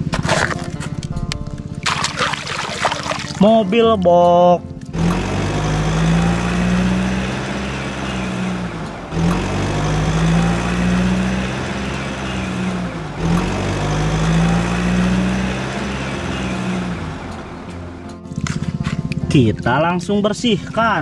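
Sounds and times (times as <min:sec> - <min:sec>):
truck engine drone: 0:00.0 - 0:19.3.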